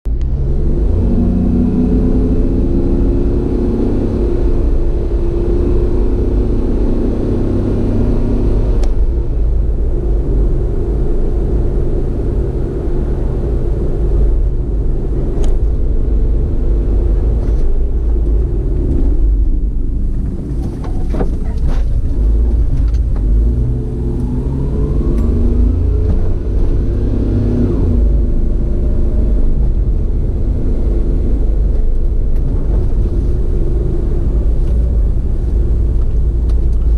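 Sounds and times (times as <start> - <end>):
road and wind noise: 0.0 - 36.9
vehicle engine running: 0.0 - 36.9.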